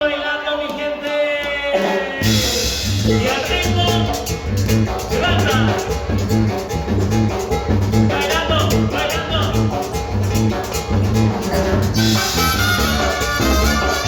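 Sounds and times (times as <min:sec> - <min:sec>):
live band music: 0:00.1 - 0:14.0.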